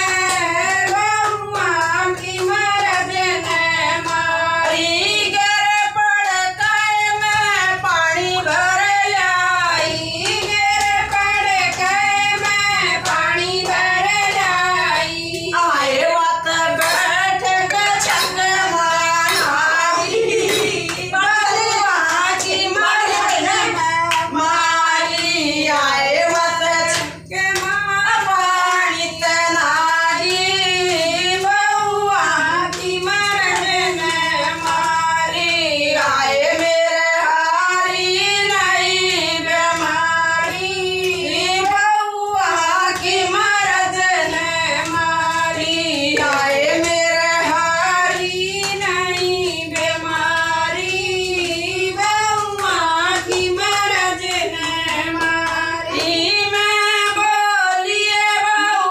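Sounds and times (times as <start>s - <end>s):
hand clapping: 0.0s - 58.9s
women singing devotional song: 0.0s - 58.9s.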